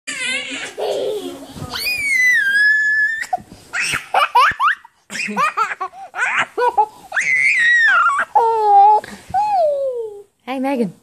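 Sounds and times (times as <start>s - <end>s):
baby laughing and squealing: 0.1s - 10.2s.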